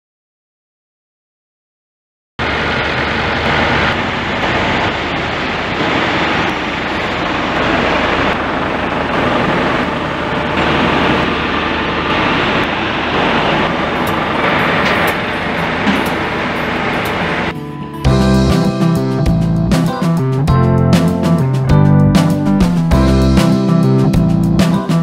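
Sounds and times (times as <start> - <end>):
loud machinery noise: 2.4 - 25.0.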